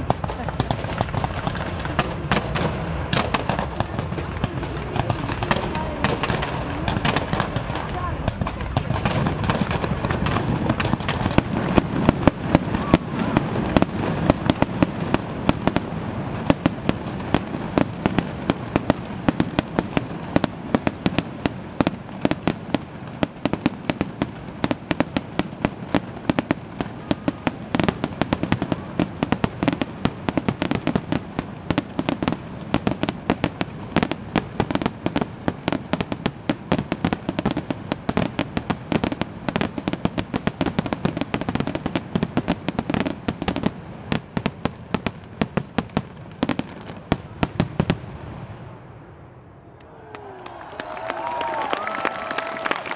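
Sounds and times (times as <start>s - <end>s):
fireworks bangs and crackling: 0.0s - 49.6s, 50.8s - 52.9s.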